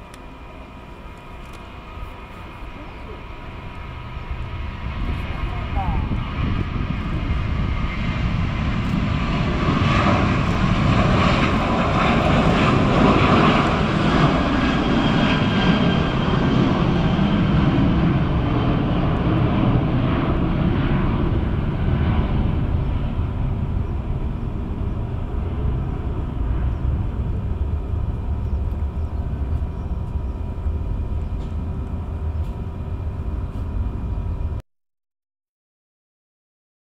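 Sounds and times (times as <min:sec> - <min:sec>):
jet airliner taking off: 0:00.0 - 0:34.6
whining fan tones: 0:00.0 - 0:34.6.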